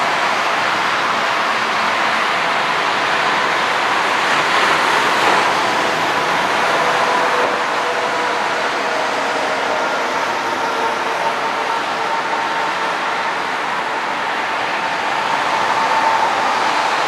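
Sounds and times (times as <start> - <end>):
distant jet engines running: 0.0 - 17.0.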